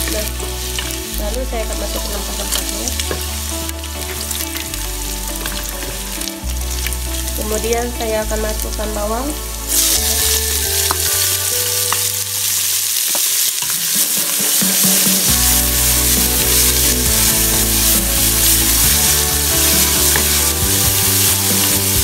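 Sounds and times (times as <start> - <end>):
onion sizzling in hot oil: 0.0 - 22.0.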